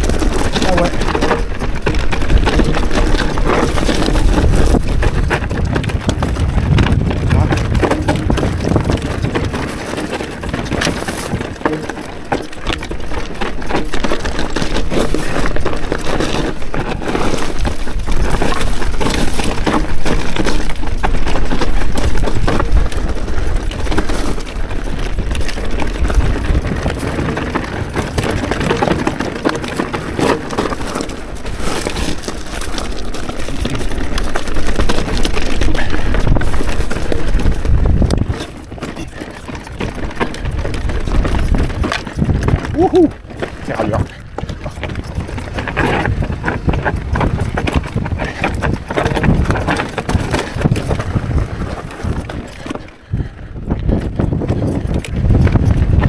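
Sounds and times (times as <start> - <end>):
bike rattling: 0.0 - 56.0
tyres crunching over stones: 0.0 - 56.0.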